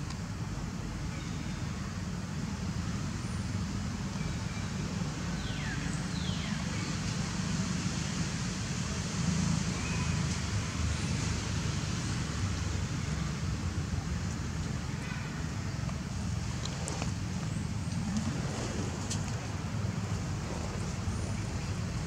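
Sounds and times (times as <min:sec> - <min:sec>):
low rumble and hiss: 0:00.0 - 0:22.0.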